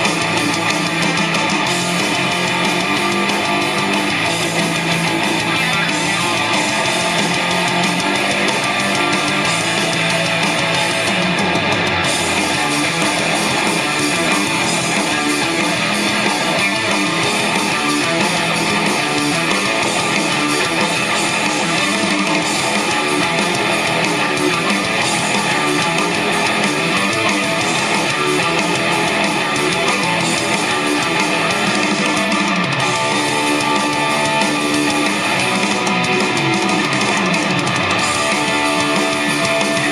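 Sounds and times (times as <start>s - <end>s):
guitar music from cassette: 0.0s - 39.9s.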